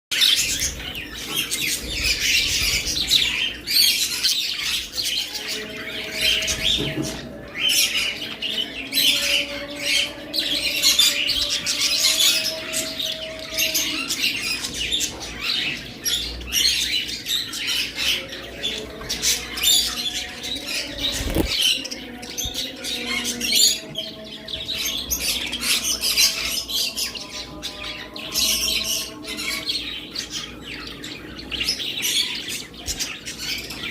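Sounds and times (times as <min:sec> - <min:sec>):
budgerigars chirping and chattering: 0:00.1 - 0:33.9.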